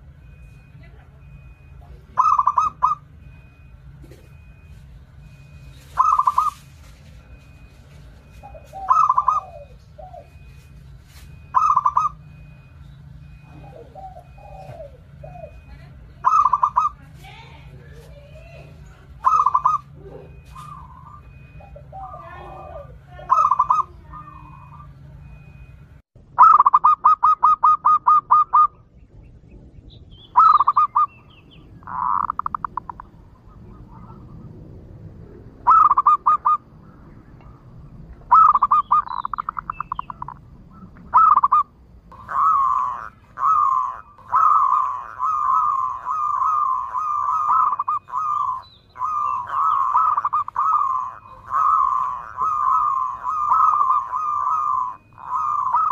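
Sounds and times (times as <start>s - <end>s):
dove cooing: 0.0s - 25.8s, 26.4s - 55.9s.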